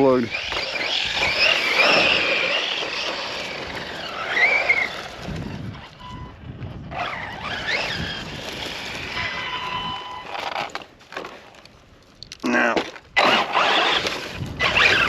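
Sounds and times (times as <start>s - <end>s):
electric motor whining: 0.0s - 10.8s, 13.2s - 15.0s.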